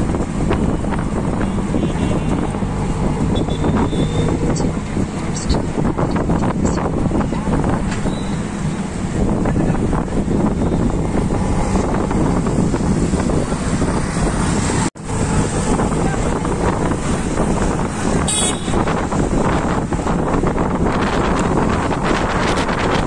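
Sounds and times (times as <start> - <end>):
city traffic: 0.0 - 23.0
engine noise: 0.0 - 23.0
wind buffeting microphone: 0.0 - 23.0.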